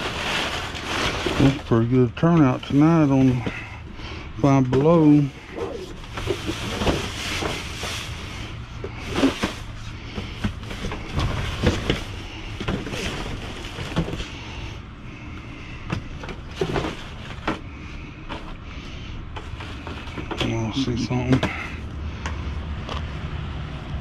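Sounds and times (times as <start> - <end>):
cardboard and plastic bags rustling: 0.0 - 21.9.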